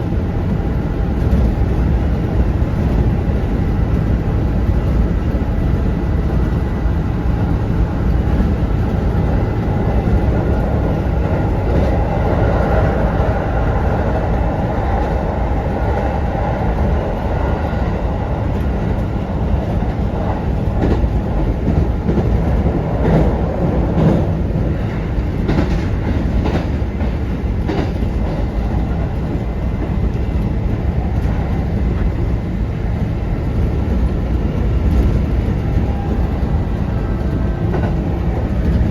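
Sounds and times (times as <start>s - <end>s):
electric train rumbling: 0.0s - 38.9s.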